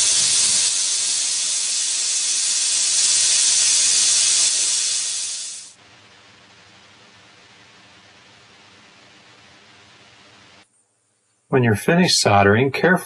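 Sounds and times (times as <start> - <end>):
torch flame hissing: 0.0 - 10.6.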